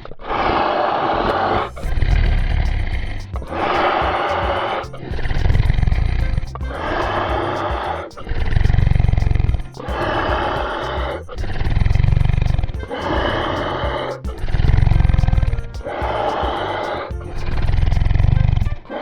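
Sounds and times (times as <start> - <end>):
deep low rumble: 1.4 - 7.5, 8.3 - 18.8
background music: 1.6 - 19.0.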